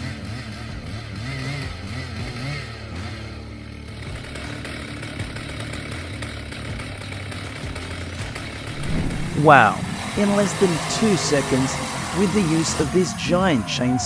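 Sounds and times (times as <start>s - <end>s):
chainsaw cutting tree trunk: 0.0s - 14.0s.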